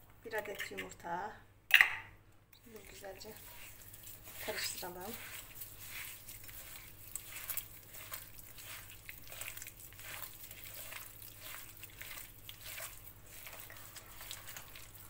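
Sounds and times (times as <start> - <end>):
hand squelching mixture in bowl: 2.6 - 15.0.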